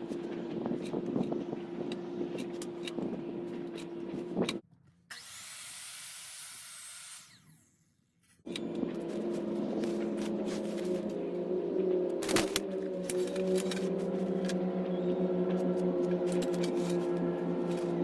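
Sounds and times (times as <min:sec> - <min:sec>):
power saw cutting wood: 0:00.0 - 0:07.7, 0:08.5 - 0:18.0.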